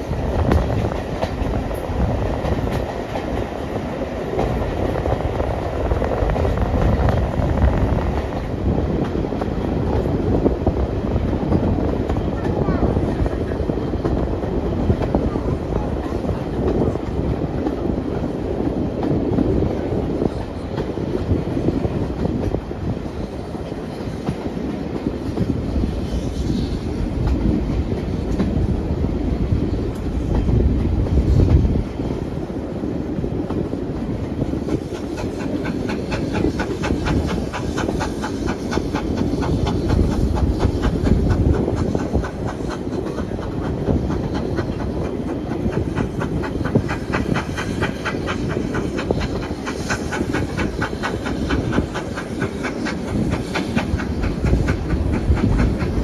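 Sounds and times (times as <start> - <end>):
train wheels rumbling and clicking: 0.0 - 56.0.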